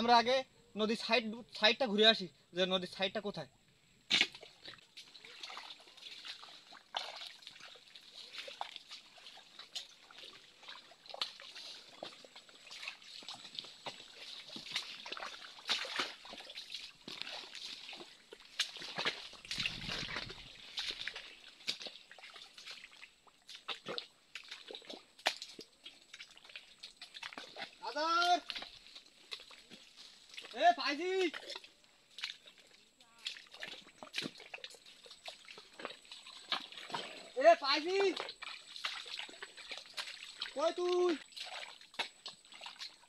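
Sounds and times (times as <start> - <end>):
footsteps squelching through mud: 4.0 - 43.0.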